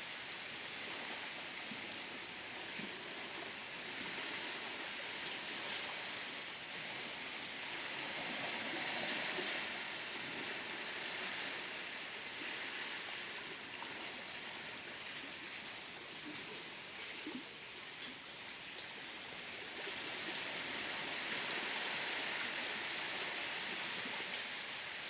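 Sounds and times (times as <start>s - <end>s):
sea waves washing: 0.0s - 25.0s.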